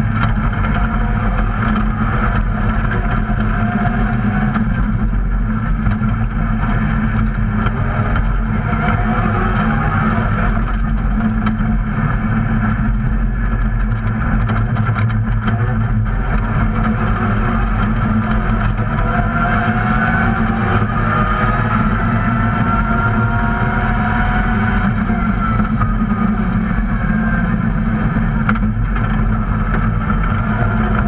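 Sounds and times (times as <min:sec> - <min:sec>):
car engine droning under load: 0:00.0 - 0:31.0
road and tyre noise: 0:00.0 - 0:31.0.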